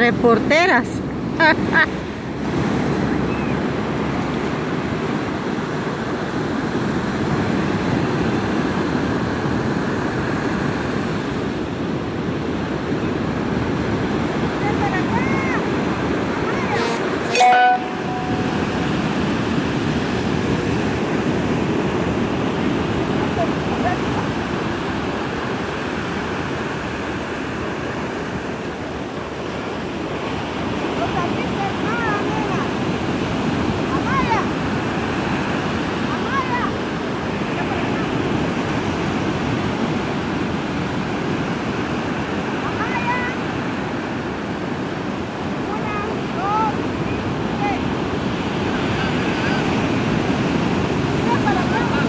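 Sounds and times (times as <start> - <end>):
ocean surf breaking: 1.0 - 52.0.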